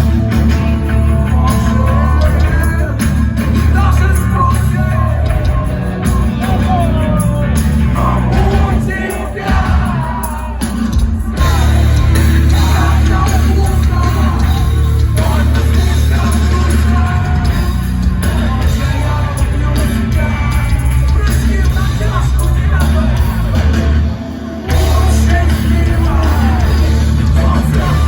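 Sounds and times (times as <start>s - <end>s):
heavy bass and drums: 0.0s - 28.0s
live rock band playing: 0.0s - 28.0s
person singing: 0.0s - 28.0s.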